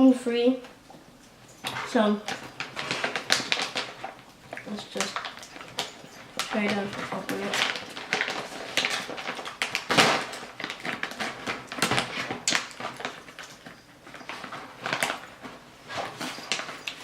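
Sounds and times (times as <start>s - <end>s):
snack packet crinkling and tearing: 2.3s - 17.0s.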